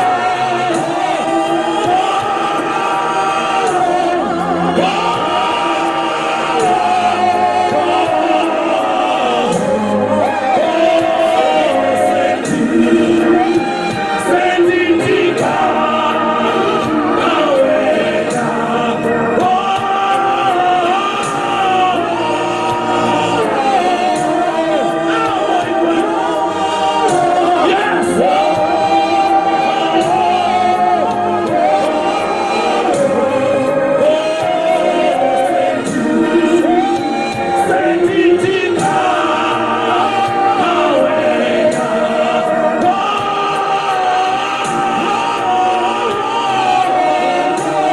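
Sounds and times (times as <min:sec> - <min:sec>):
choir singing gospel song: 0:00.0 - 0:47.9
steady beat: 0:00.0 - 0:47.9.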